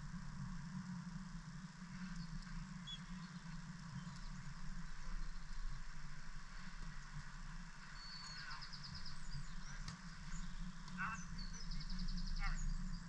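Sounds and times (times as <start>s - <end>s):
background hiss: 0.0s - 13.0s
steady low hum: 0.0s - 13.0s.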